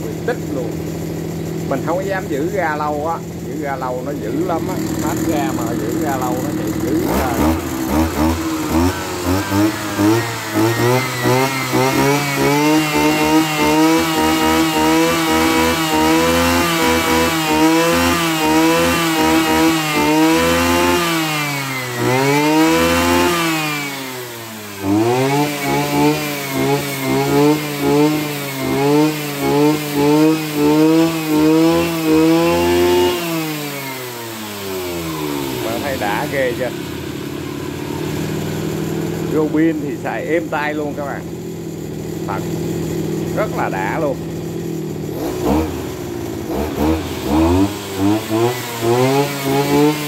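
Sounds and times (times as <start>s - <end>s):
brush cutter engine revving: 0.0s - 50.0s.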